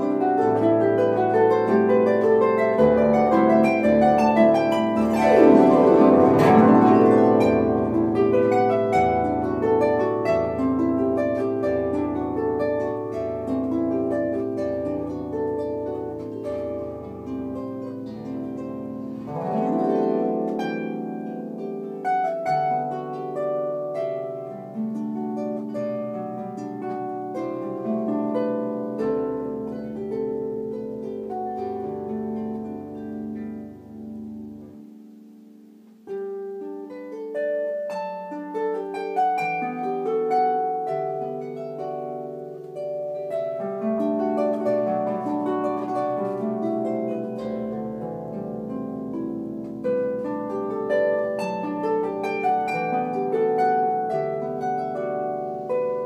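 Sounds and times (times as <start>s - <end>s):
electric harp melody: 0.0s - 56.0s.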